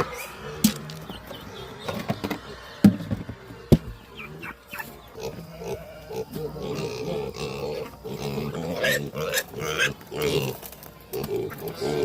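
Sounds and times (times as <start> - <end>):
pig grunting: 0.0 - 12.0.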